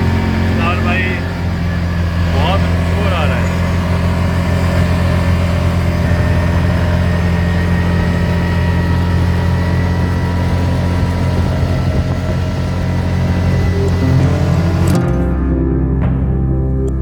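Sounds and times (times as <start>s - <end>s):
dune buggy engine running: 0.0s - 15.5s.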